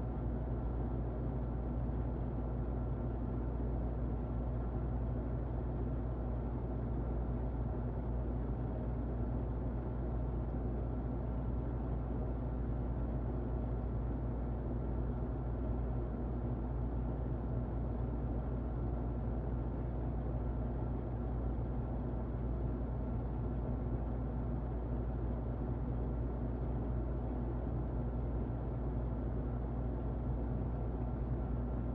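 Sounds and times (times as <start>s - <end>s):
muffled electric fan running: 0.0s - 31.9s.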